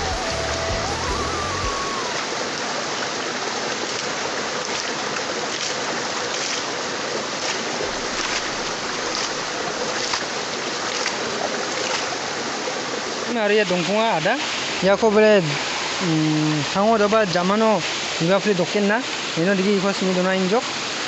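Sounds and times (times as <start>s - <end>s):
stream water rushing: 0.0s - 21.0s
water splashing over stones: 1.7s - 21.0s.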